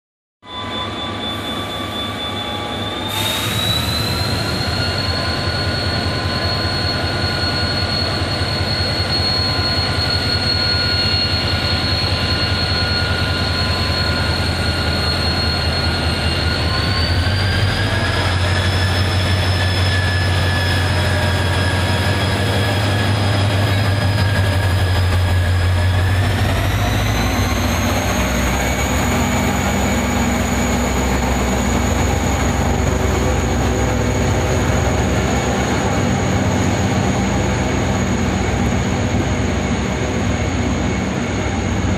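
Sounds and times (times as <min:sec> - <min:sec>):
high locomotive whine: 0:00.4 - 0:41.9
locomotive engine rumble: 0:03.1 - 0:41.9.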